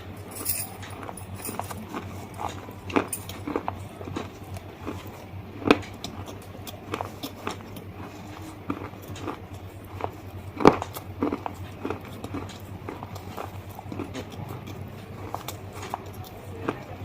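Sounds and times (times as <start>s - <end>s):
faint steady hum: 0.0s - 17.0s
crunchy chewing: 0.3s - 17.0s.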